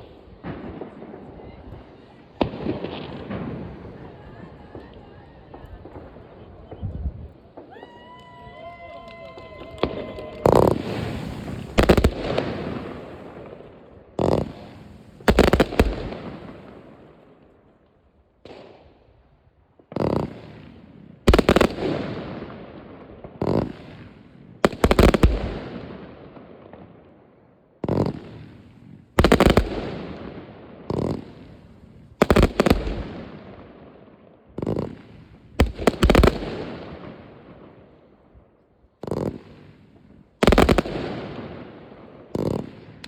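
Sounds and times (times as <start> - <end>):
fireworks exploding with echo: 0.0 - 43.0.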